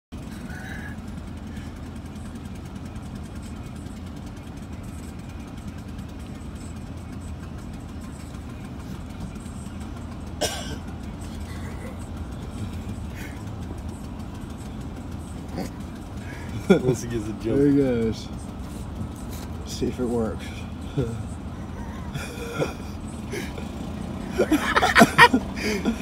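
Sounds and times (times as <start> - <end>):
small engine idling: 0.1 - 26.0.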